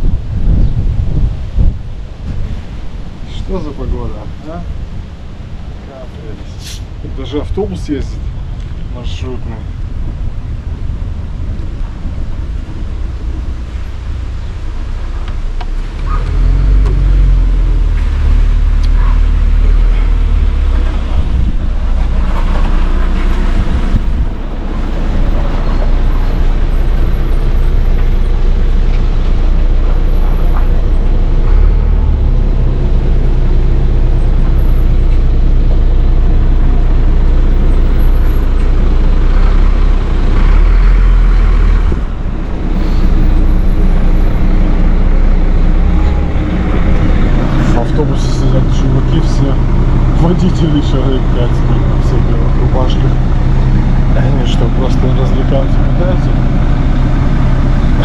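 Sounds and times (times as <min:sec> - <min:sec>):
wind buffeting microphone: 0:00.0 - 0:17.9, 0:18.9 - 0:40.8, 0:41.4 - 0:50.3.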